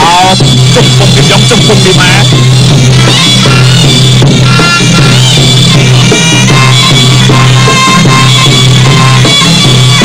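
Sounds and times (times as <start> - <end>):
drums playing: 0.0 - 10.0
reedy wind instrument melody: 0.0 - 10.0.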